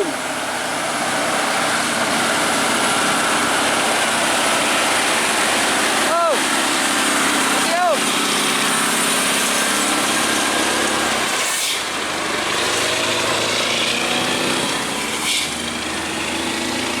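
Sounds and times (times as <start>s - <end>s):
vehicle engines running: 0.0s - 17.0s
vehicles passing by: 0.0s - 17.0s.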